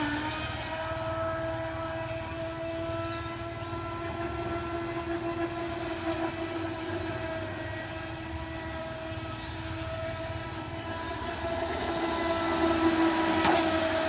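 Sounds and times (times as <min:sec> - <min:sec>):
boat motor whining: 0:00.0 - 0:14.0.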